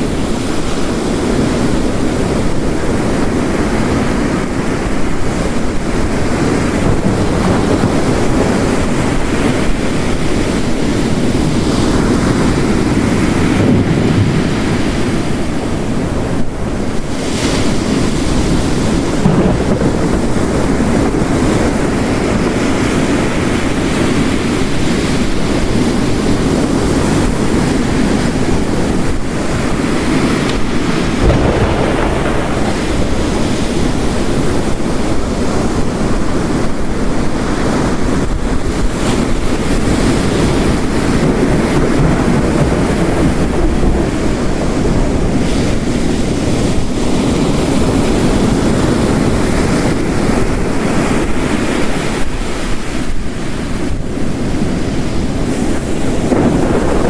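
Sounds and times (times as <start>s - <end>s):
heavy rain: 0.0s - 57.0s
ocean waves crashing on rocks: 0.0s - 57.0s.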